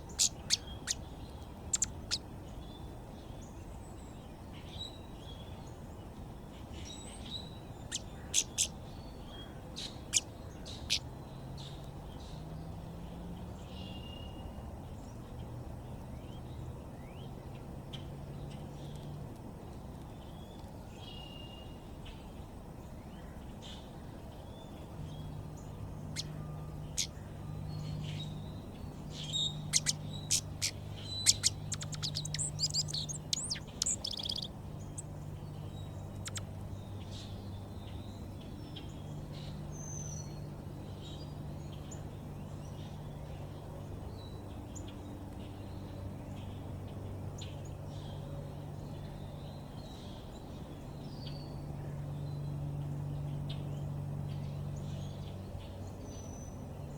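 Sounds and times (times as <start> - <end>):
faint low hum: 0.0 - 56.9
songbirds chirping: 0.0 - 56.9.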